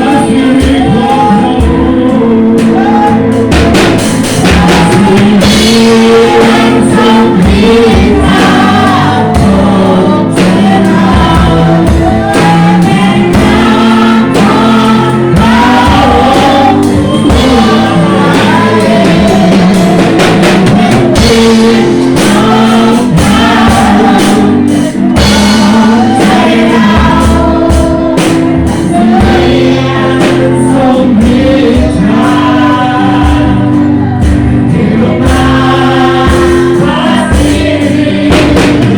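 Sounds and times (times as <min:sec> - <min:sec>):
drum kit beat: 0:00.0 - 0:38.9
group singing worship song: 0:00.0 - 0:38.9
live band playing: 0:00.0 - 0:38.9.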